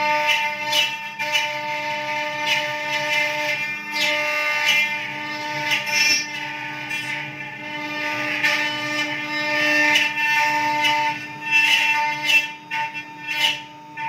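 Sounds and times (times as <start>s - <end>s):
router bit cutting material: 0.0s - 14.0s
router spindle whining: 0.0s - 14.0s.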